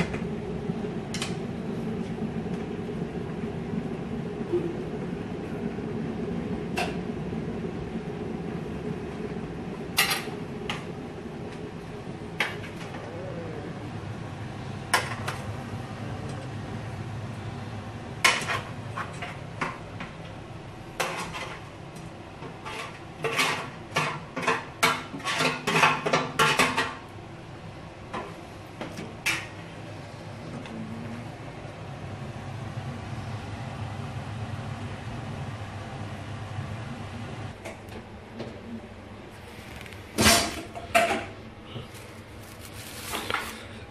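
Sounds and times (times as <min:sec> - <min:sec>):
steady low hum: 0:00.0 - 0:24.5, 0:26.8 - 0:43.9.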